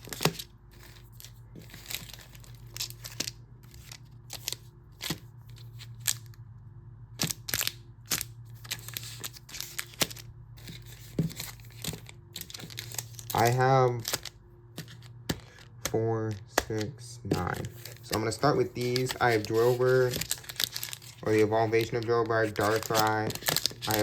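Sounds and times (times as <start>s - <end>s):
foil and plastic crinkling: 0.0s - 6.2s, 7.2s - 15.8s, 16.7s - 24.0s.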